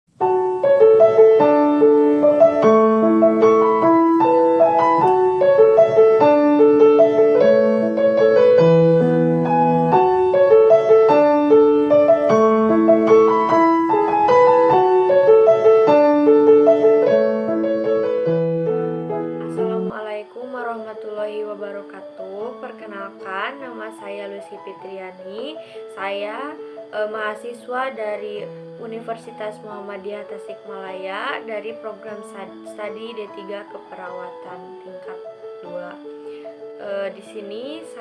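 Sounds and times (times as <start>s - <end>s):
piano music: 0.1s - 38.0s.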